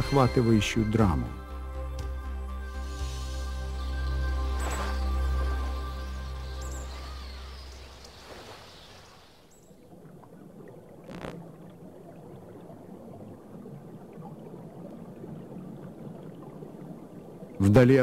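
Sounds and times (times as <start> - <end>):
rushing river water: 2.9 - 17.7.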